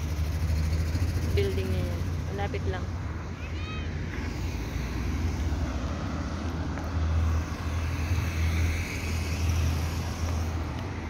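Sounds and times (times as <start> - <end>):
cars passing: 0.0 - 11.0.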